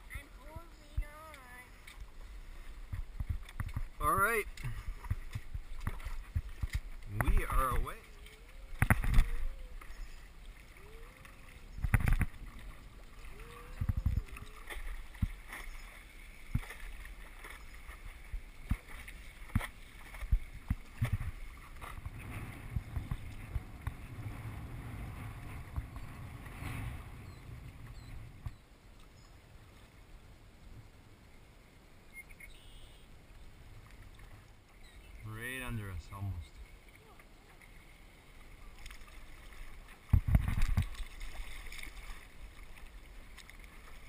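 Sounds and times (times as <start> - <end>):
paddle splashing in water: 0.0 - 30.0, 32.6 - 44.0
water rushing along board: 0.0 - 44.0.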